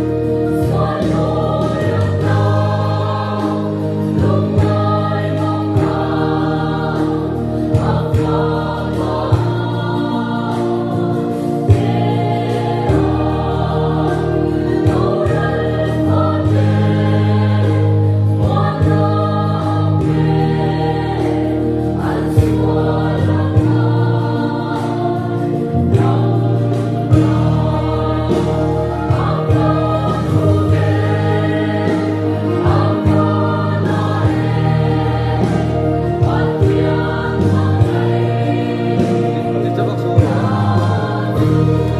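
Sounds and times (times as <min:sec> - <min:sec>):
low accompaniment chords: 0:00.0 - 0:41.9
mixed choir singing a hymn: 0:00.0 - 0:41.9.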